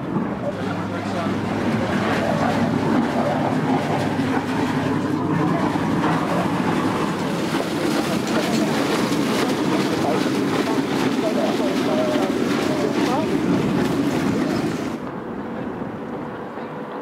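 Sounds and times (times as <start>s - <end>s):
ferry engine rumbling: 0.0s - 17.0s.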